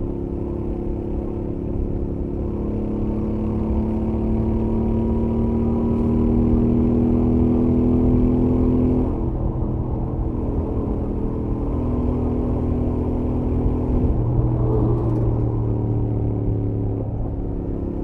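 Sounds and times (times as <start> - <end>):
motorcycle engine accelerating: 0.1 - 18.0.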